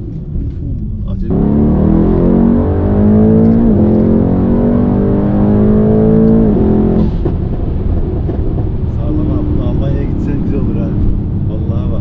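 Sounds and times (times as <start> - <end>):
car engine accelerating hard: 1.2 - 12.0.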